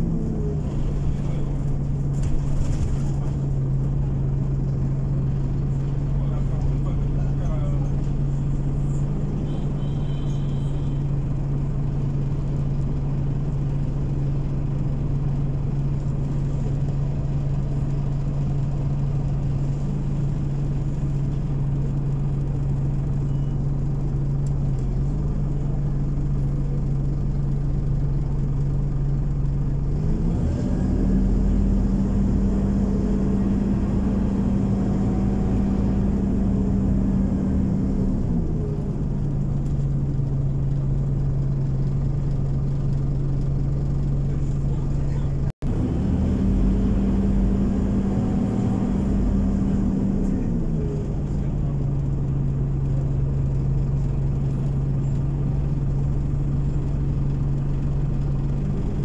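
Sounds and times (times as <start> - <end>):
bus engine idling and revving: 0.0 - 59.0.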